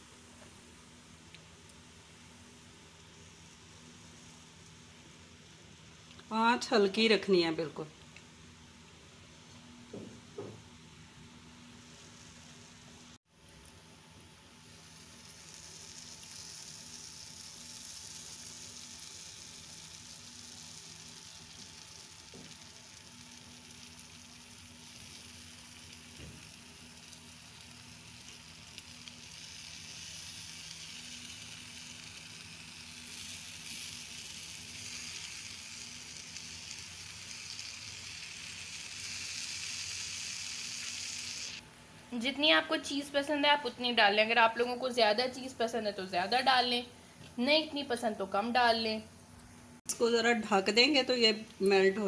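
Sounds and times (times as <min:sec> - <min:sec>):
food sizzling in a frying pan: 0:00.0 - 0:07.7, 0:11.7 - 0:49.2.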